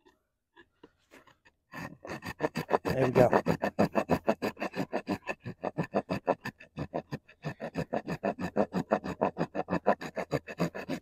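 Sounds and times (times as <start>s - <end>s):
knife sawing into wood: 1.1s - 11.0s.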